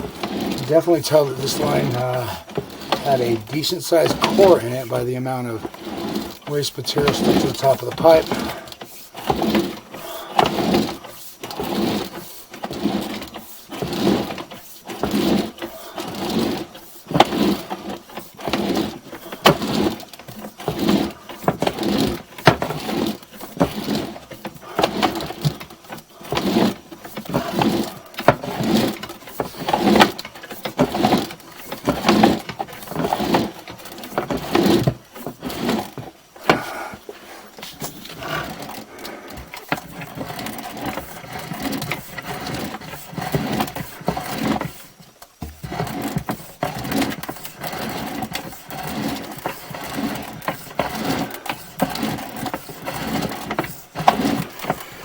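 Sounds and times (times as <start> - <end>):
cable rattling and scraping in pipe: 0.0 - 55.0.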